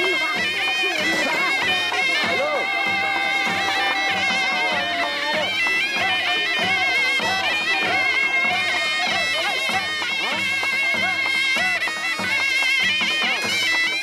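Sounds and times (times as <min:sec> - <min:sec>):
drums beating: 0:00.0 - 0:14.0.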